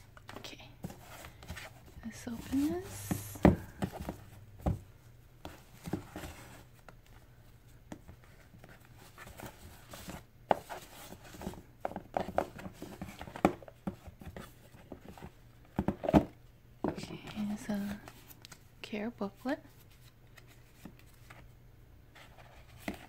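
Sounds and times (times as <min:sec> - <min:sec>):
ribbon and cardboard rustling: 0:00.0 - 0:16.2, 0:16.8 - 0:21.5.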